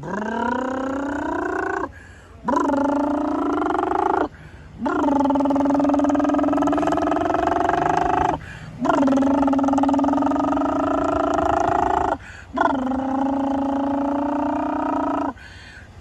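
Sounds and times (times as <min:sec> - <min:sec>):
toddler imitating engine noise: 0:00.0 - 0:15.5.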